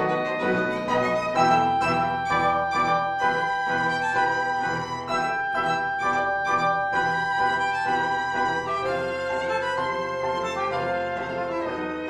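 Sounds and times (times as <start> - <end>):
orchestral music led by violin: 0.0 - 12.0.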